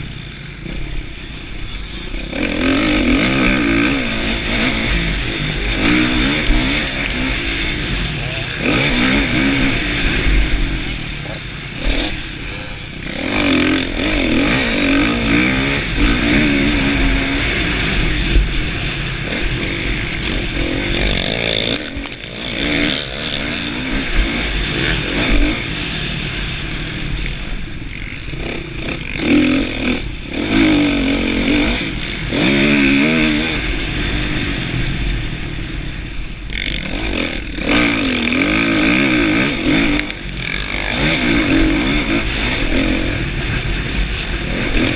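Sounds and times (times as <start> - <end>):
motocross engine revving: 0.0 - 44.9.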